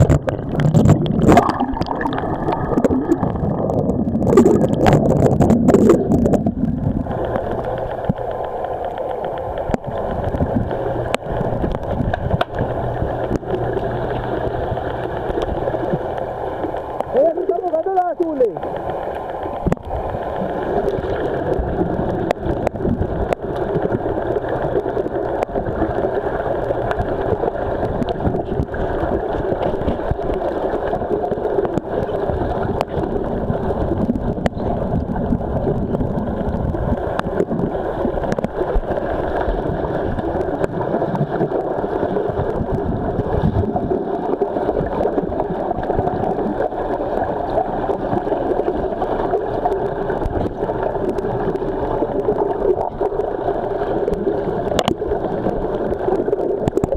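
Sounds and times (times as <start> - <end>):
muffled underwater rushing: 0.0 - 56.9
underwater bubbling and clicks: 0.0 - 56.9.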